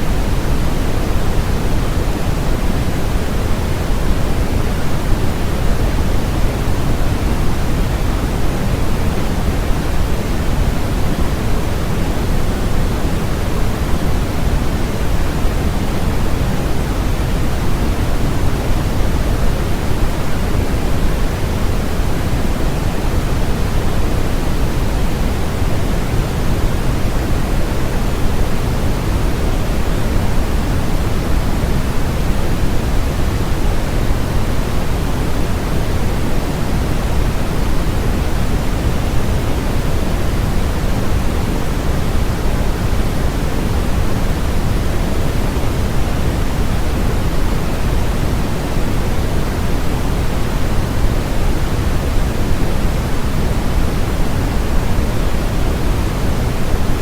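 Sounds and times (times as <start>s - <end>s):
steady noise hiss: 0.0s - 57.0s.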